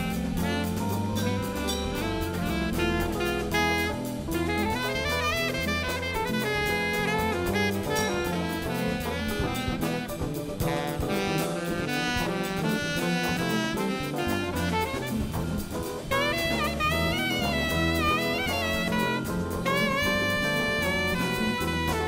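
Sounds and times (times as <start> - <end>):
jazz big band playing: 0.0 - 22.0.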